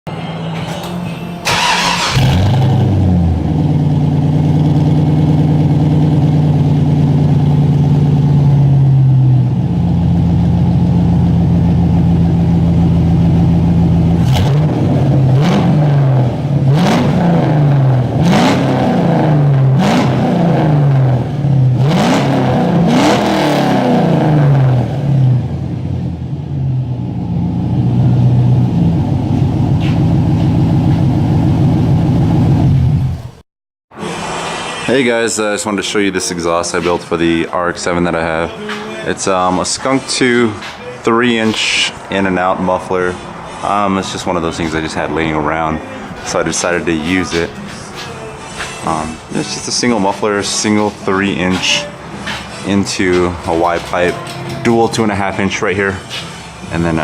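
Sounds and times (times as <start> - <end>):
loud car exhaust idling and revving: 2.0 - 33.4, 39.2 - 57.0.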